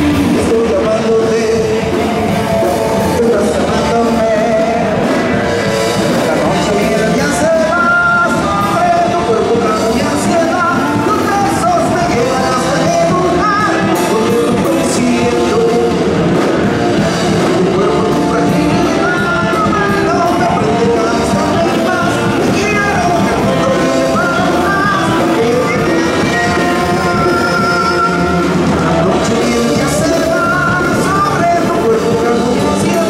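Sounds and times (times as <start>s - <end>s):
live rock band playing: 0.0s - 33.0s
man singing into microphone: 0.0s - 33.0s.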